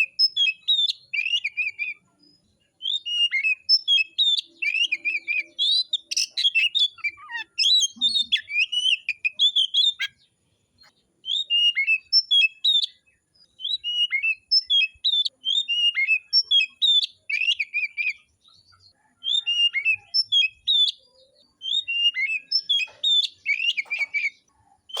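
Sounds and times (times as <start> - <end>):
bird singing whistled phrases: 0.0 - 2.0, 2.8 - 10.2, 11.2 - 18.3, 19.2 - 25.0.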